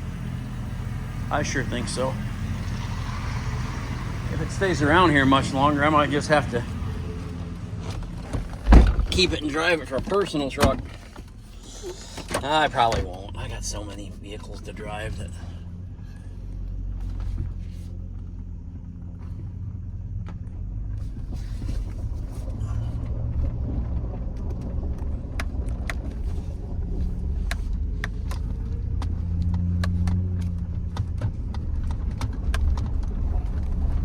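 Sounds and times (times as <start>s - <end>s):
engine drone inside truck cab: 0.0s - 34.0s
road noise: 0.0s - 34.0s.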